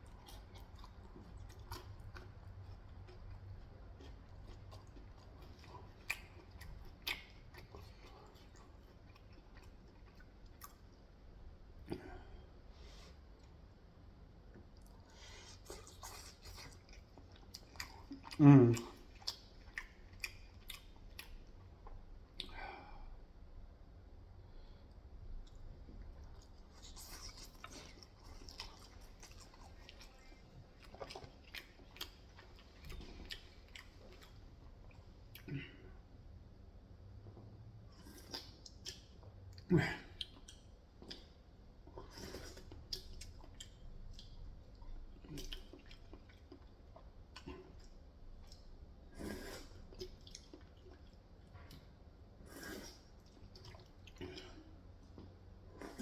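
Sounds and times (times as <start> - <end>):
person chewing food: 0.0 - 13.7, 14.4 - 22.7, 25.3 - 35.7, 37.2 - 56.0.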